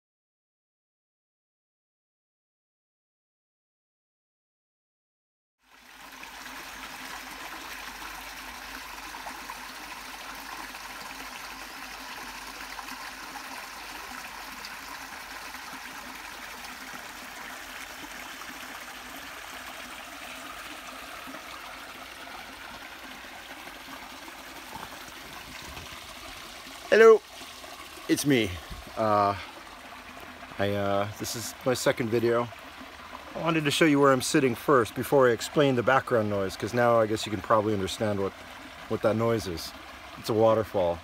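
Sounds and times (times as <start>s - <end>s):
small waterfall splashing: 5.6s - 41.0s.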